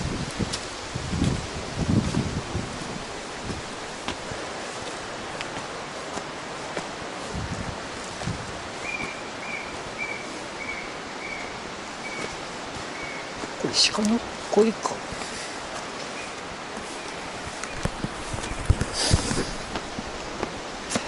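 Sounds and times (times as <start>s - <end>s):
steady outdoor hiss: 0.0s - 21.0s
soft footfalls: 0.4s - 10.5s, 11.8s - 14.4s, 15.1s - 21.0s.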